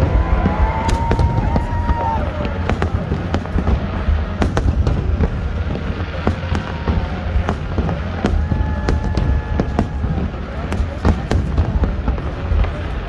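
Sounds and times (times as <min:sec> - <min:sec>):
firework booms rumbling: 0:00.0 - 0:13.0
firework sharp cracks: 0:00.0 - 0:13.0.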